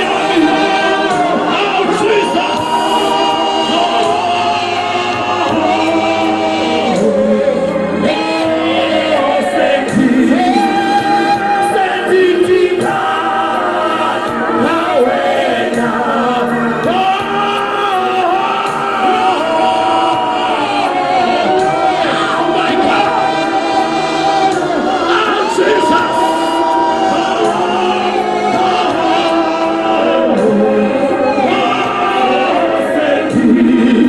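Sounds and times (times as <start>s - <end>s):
choir singing gospel song: 0.0s - 34.0s.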